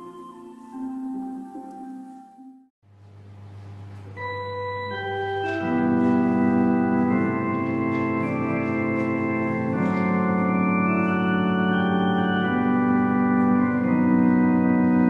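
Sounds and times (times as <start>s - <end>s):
organ playing sustained chords: 0.0s - 2.7s, 3.6s - 15.0s.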